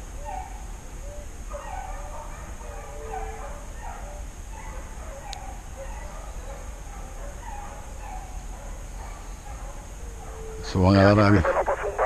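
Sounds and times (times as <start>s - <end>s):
distant hounds baying: 0.0s - 12.0s.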